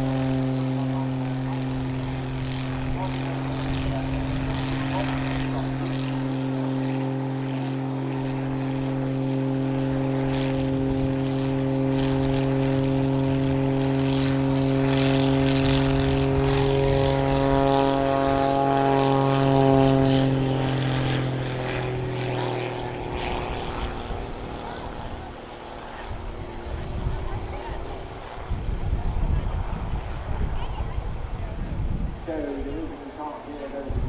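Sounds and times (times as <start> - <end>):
propeller plane droning overhead: 0.0 - 34.0.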